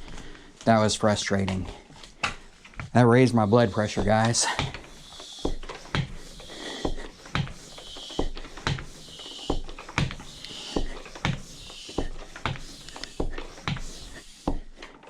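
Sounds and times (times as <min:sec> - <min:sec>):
hand pump hissing and clacking: 0:01.2 - 0:15.0.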